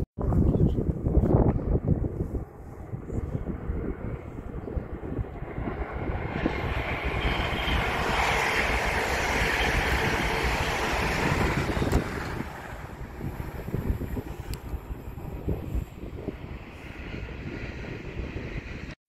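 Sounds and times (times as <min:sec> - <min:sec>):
wind buffeting microphone: 0:00.0 - 0:19.0
high-speed train passing: 0:01.3 - 0:19.0.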